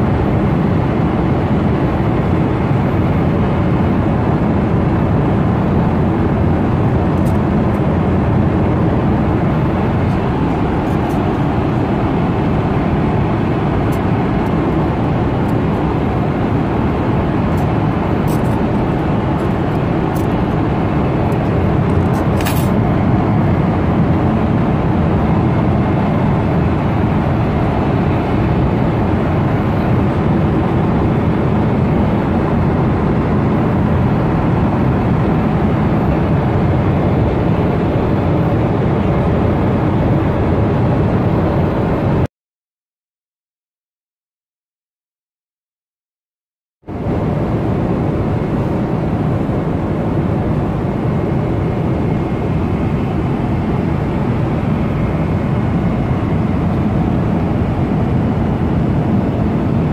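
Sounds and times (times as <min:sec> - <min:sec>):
airliner cabin drone: 0:00.0 - 0:42.3, 0:46.9 - 0:59.9.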